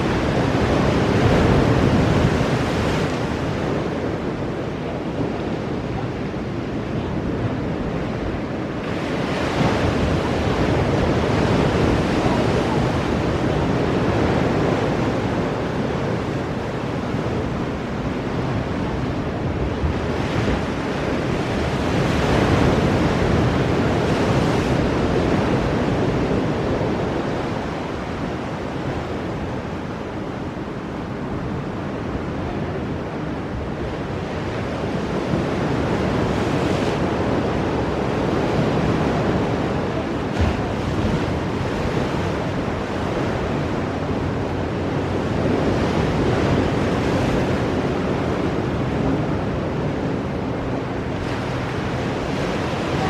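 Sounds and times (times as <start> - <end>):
ocean waves breaking on rocks: 0.0 - 53.0
wind buffeting microphone: 0.0 - 53.0.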